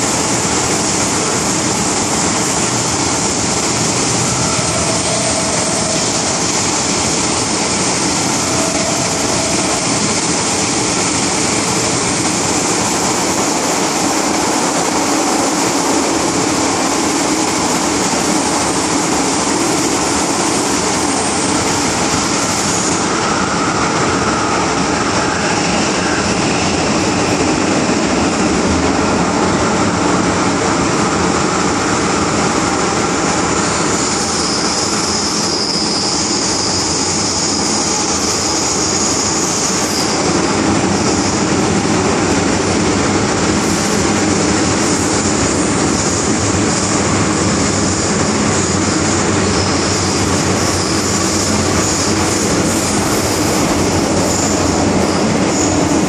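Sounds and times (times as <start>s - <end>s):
high-pitched whine: 0.0s - 56.0s
train wheels on rails: 0.0s - 56.0s.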